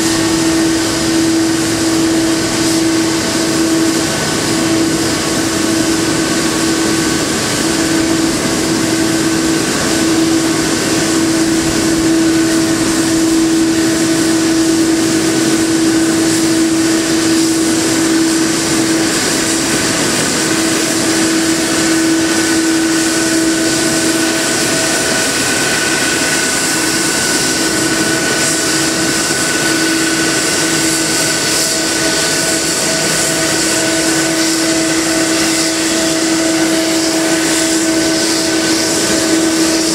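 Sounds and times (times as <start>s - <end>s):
constant humming tone: 0.0s - 39.9s
jet engine noise in cabin: 0.0s - 39.9s.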